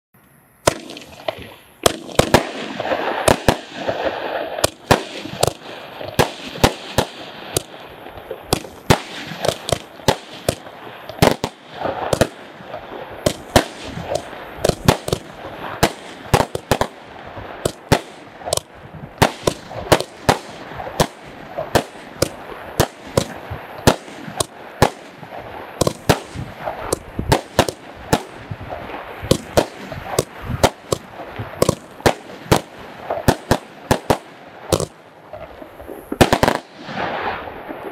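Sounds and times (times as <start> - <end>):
hiss of burning firework stars: 0.3 - 37.9
firework bangs: 0.6 - 37.9.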